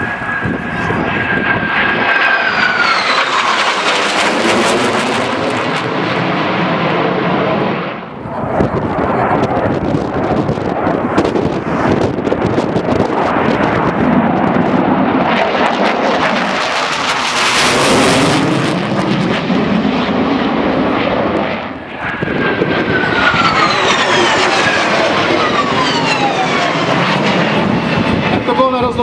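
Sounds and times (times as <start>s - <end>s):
jet fighter engine roar: 0.0s - 29.0s.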